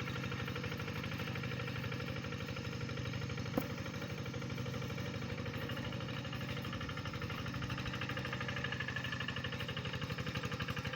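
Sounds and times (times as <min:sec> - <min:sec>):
tractor engine running: 0:00.0 - 0:10.9.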